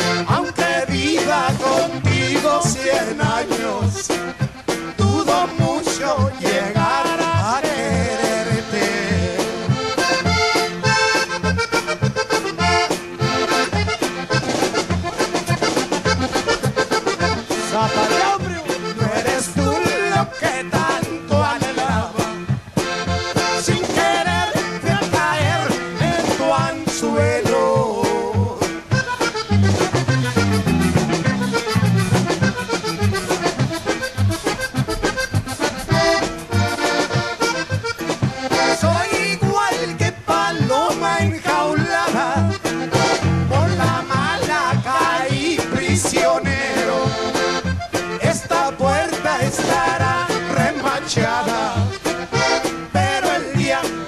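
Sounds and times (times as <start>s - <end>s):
button accordion melody: 0.0s - 54.0s
guitar: 0.0s - 54.0s
steady bass beat: 0.0s - 54.0s.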